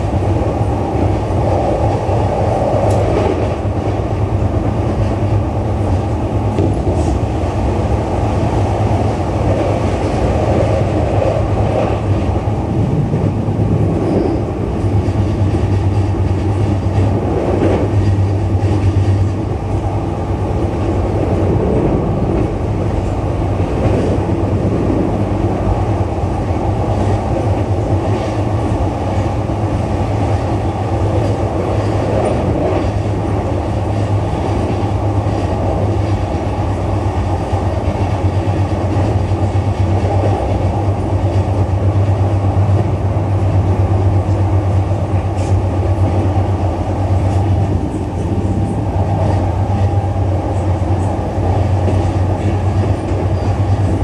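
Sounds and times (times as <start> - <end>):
wheel-on-rail rumble: 0.0 - 54.0.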